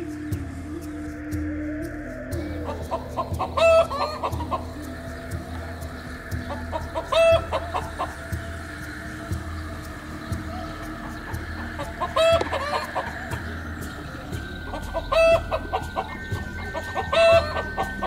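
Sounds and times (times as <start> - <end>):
chicken clucking: 2.3 - 18.0.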